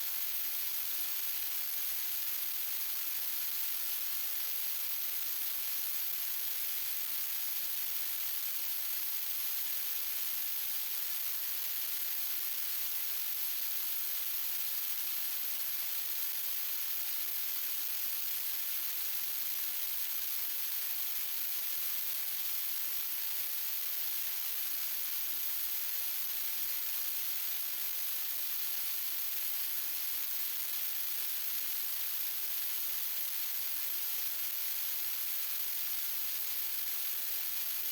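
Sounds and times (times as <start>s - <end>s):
steady static hiss: 0.0s - 37.9s.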